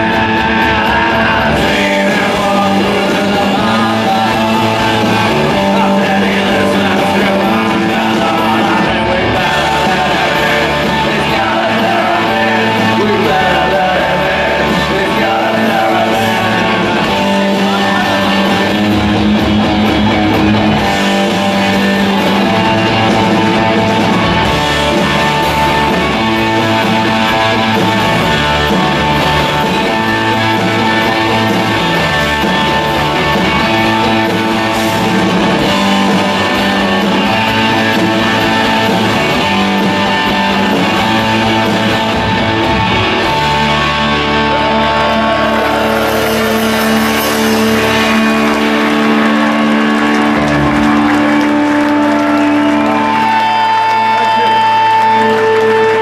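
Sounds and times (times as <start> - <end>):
rock band with electric guitars: 0.0 - 56.0.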